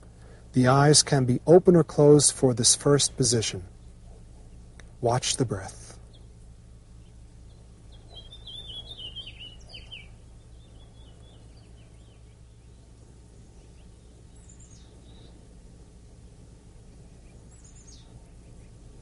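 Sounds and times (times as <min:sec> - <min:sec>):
low background hum: 0:00.0 - 0:19.0
small birds chirping and twittering: 0:00.0 - 0:19.0.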